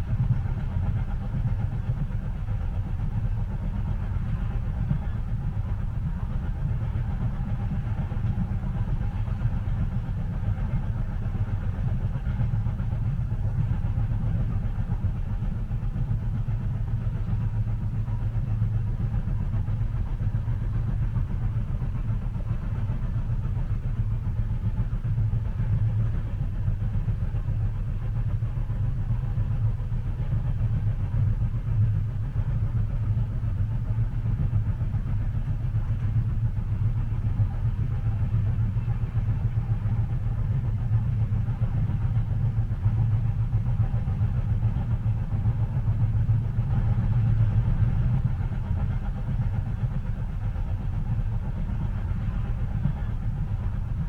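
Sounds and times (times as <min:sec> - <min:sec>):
train rumbling inside carriage: 0:00.0 - 0:54.0.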